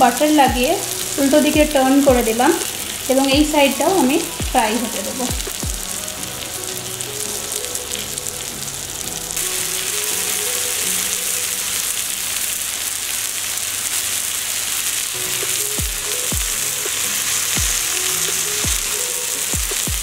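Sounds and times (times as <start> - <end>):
fish sizzling in butter: 0.0 - 20.0.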